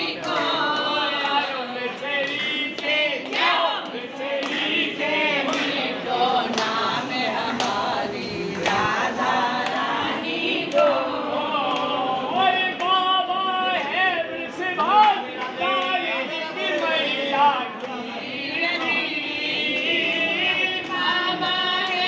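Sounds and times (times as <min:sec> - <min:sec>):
group singing a devotional chant: 0:00.0 - 0:22.0.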